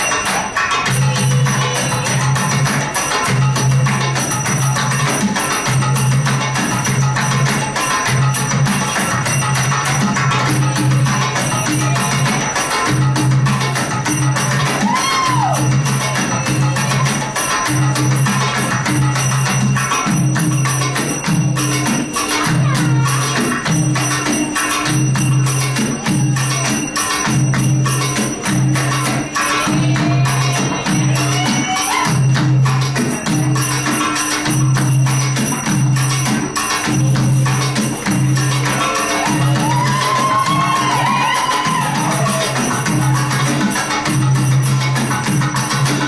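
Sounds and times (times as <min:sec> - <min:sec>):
belly dance music: 0:00.0 - 0:46.0
tambourine-like jingling: 0:00.0 - 0:46.0.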